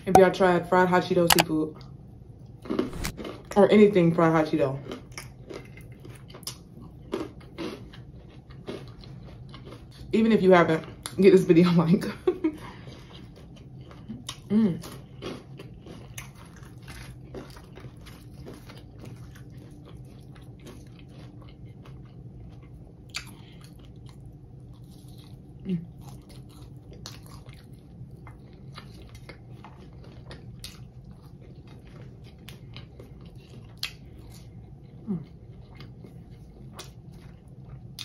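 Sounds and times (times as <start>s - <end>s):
crunchy food chewing: 2.5s - 3.6s, 4.7s - 10.1s, 12.8s - 38.0s.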